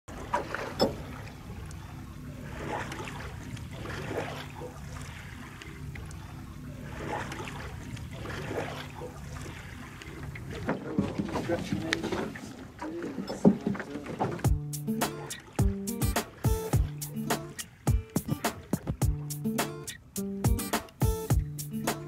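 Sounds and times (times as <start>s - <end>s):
water sloshing against a hull: 0.1s - 22.0s.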